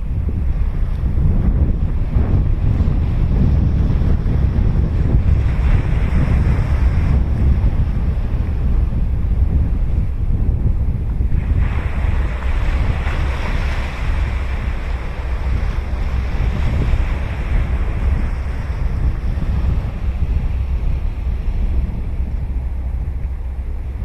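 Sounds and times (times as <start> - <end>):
ocean waves breaking: 0.0 - 24.0
wind on microphone: 0.0 - 24.0.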